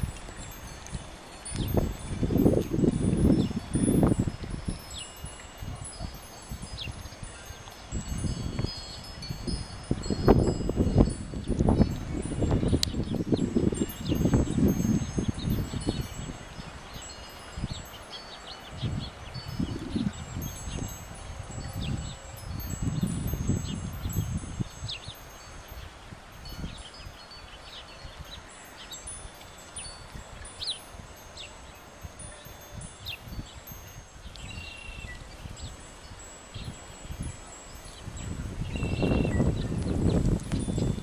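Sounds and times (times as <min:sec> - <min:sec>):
wind buffeting microphone: 0:00.0 - 0:41.0
wind chimes ringing: 0:00.0 - 0:41.0.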